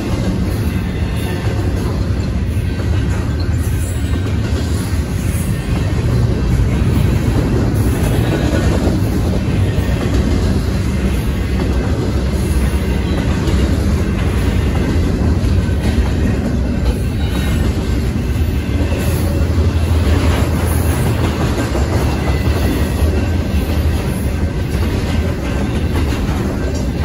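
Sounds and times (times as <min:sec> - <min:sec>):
freight cars rolling on rails: 0:00.0 - 0:27.0.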